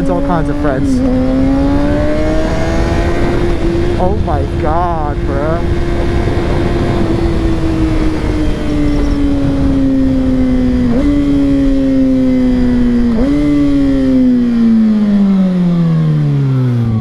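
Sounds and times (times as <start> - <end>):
wind rush: 0.0 - 14.4
motorcycle engine revs falling: 0.0 - 17.0.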